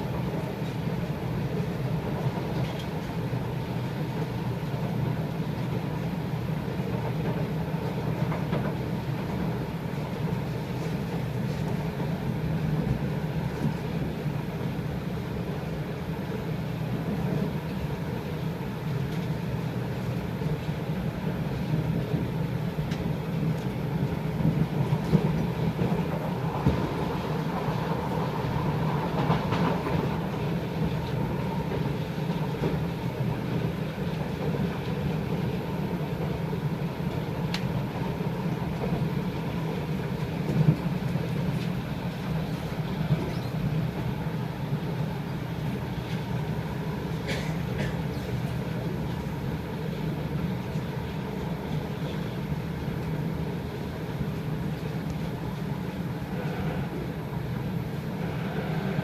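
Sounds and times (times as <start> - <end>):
metro train rumbling: 0.0 - 59.0
train clatter and knocks: 0.0 - 59.0.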